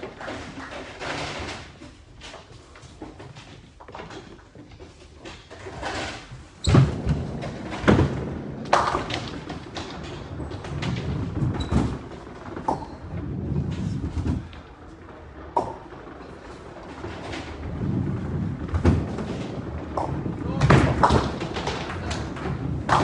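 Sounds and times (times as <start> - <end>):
bowling balls thudding and rolling: 0.0 - 23.0.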